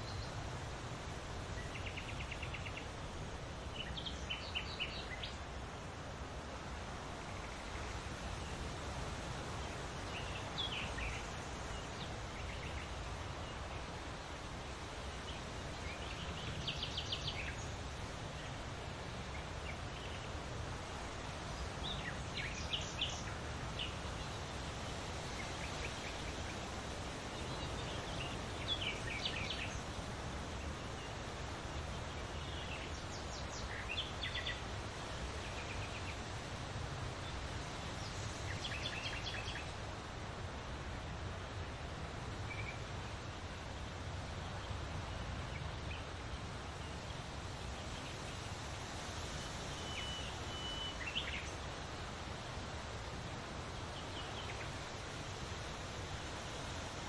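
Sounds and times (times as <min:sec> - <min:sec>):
leaves rustling in wind: 0:00.0 - 0:57.0
songbirds chirping: 0:00.0 - 0:57.0.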